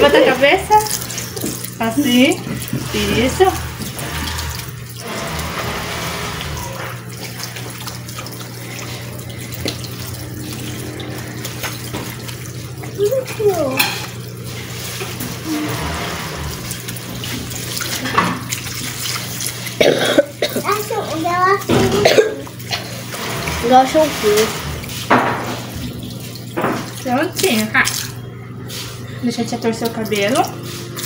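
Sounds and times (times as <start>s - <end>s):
tap water running into sink: 0.0s - 31.0s.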